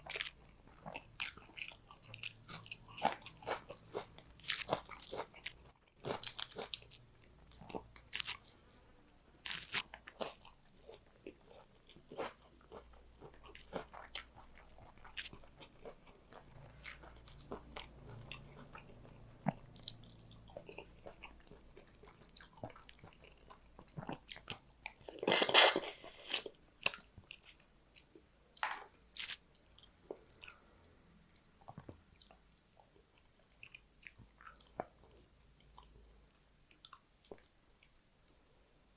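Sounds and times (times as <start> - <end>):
chewing with crunches: 0.0 - 28.2, 29.0 - 38.0.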